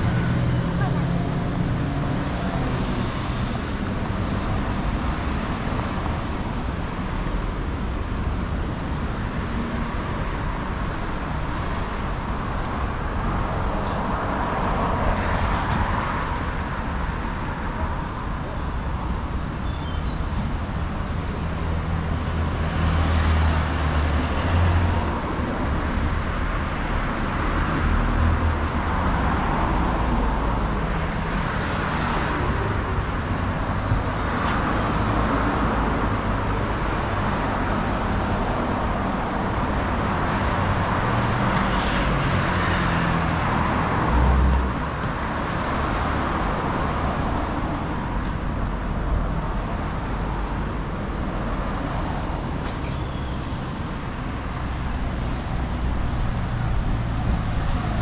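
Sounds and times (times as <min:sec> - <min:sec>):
cars passing: 0:00.0 - 0:19.6, 0:20.2 - 0:58.0
road traffic hum: 0:00.0 - 0:58.0.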